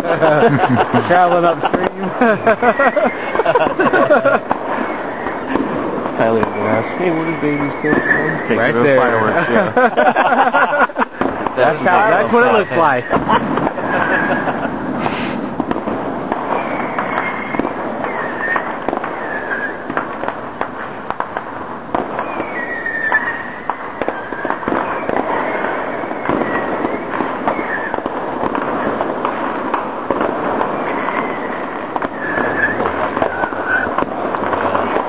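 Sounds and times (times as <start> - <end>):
distant fireworks popping and crackling: 0.0 - 35.0.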